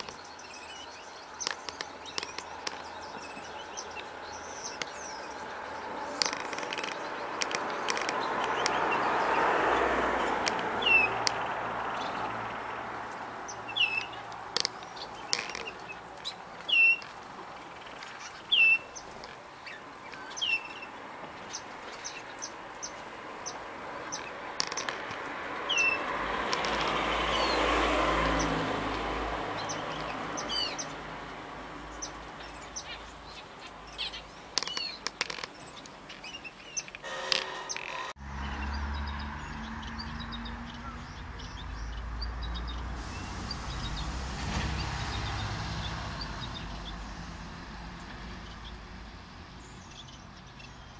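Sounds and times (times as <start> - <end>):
small birds chirping: 0.0 - 37.0, 37.7 - 50.9.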